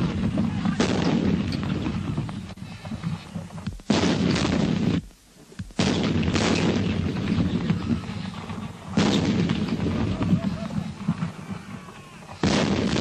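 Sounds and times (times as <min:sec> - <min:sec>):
howitzer blasts with rumble: 0:00.0 - 0:13.0.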